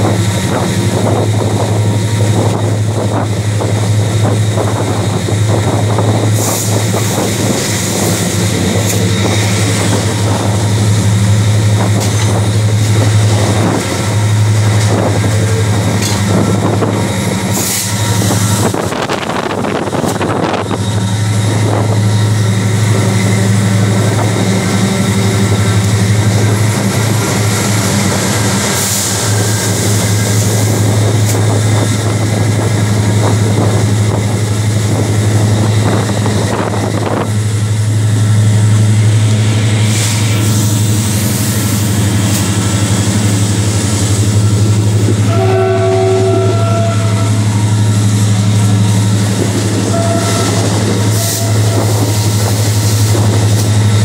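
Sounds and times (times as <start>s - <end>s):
locomotive engine drone: 0.0s - 54.0s
rail noise: 0.0s - 54.0s
rush of noise: 0.0s - 54.0s
wind noise: 0.0s - 54.0s.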